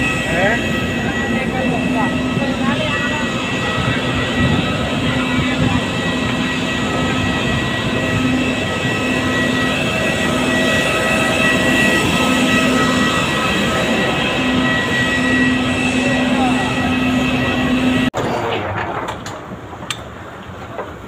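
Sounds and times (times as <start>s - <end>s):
jet engine roar: 0.0s - 21.0s
jet engine whining tones: 0.0s - 21.0s.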